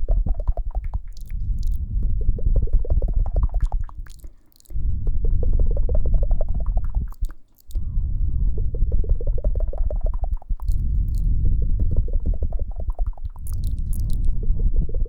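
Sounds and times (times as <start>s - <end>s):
faint high ticks: 0.0s - 7.8s, 8.7s - 15.0s.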